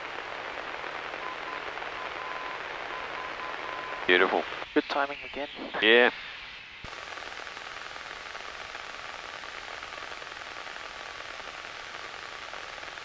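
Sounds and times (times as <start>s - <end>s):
headset audio hiss: 0.0s - 13.0s.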